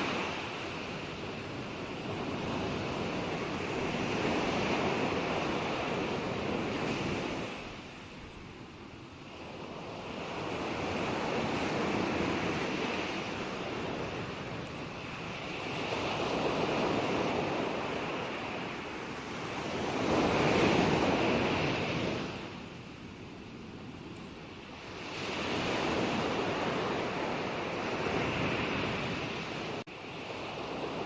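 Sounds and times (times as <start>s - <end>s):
ocean waves breaking on shore: 0.0s - 31.0s.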